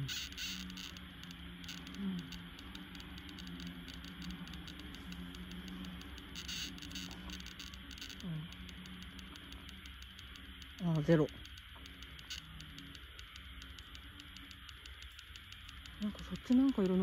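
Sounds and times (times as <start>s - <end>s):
low hum: 0.0s - 17.0s
meter speaker crackling clicks: 0.0s - 17.0s.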